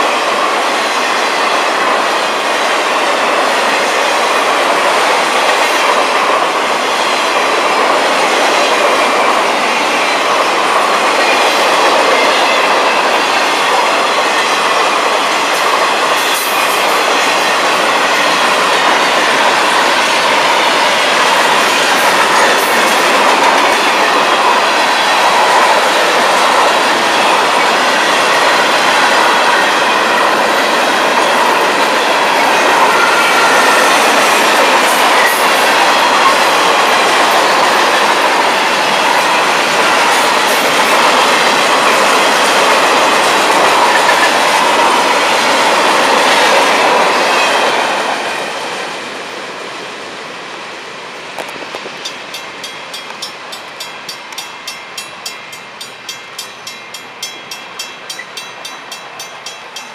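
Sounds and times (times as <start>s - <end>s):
freight train wheels on rail: 0.0s - 59.9s.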